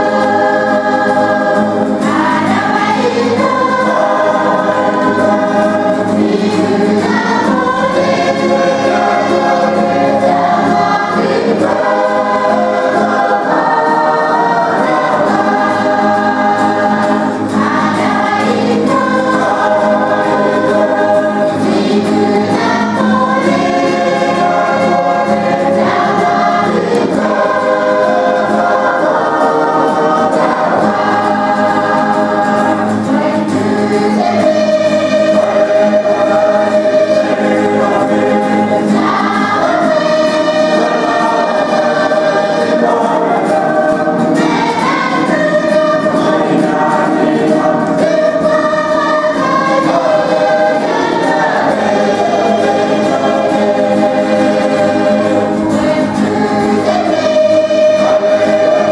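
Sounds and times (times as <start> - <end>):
guitar accompaniment: 0.0 - 58.9
mixed choir singing in harmony: 0.0 - 58.9.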